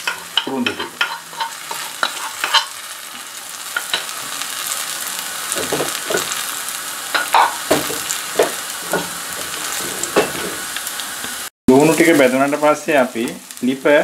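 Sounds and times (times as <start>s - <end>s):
crackles and pops of frying: 0.0s - 14.0s
onions sizzling in oil: 0.0s - 14.0s.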